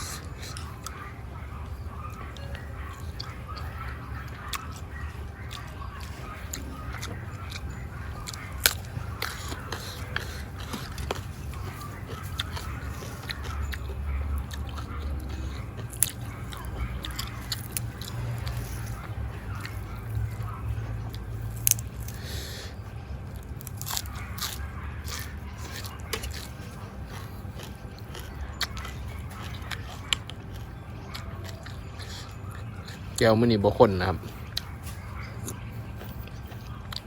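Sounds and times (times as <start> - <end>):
wet chewing mouth sounds: 0.0 - 37.0
sharp crunches of food: 2.1 - 37.0.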